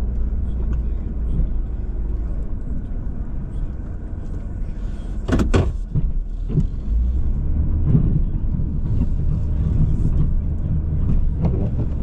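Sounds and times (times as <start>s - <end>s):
plow engine rumbling: 0.0s - 12.0s.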